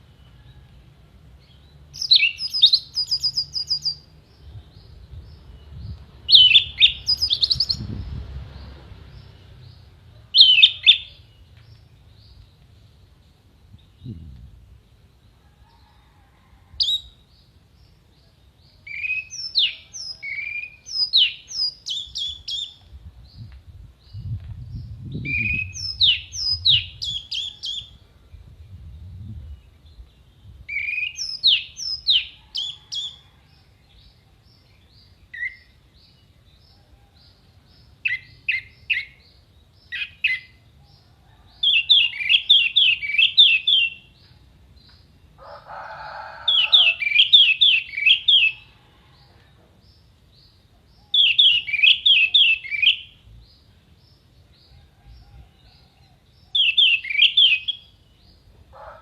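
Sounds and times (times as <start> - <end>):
lower harsh bird sound: 0.0 - 59.0.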